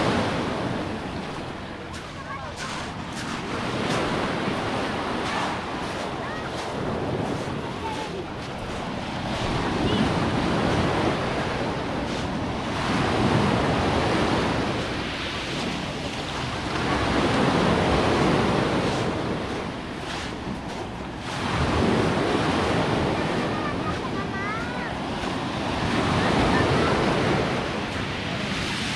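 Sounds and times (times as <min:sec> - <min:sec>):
waves washing on pebbly shore: 0:00.0 - 0:28.9.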